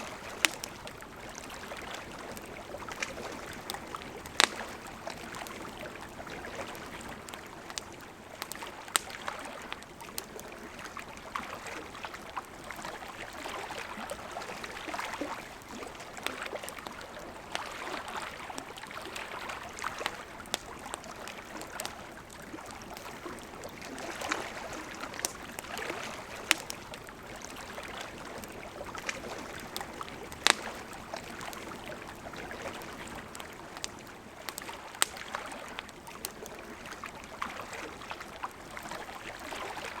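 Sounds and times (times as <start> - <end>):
campfire crackling: 0.0 - 40.0
flowing river: 0.0 - 40.0.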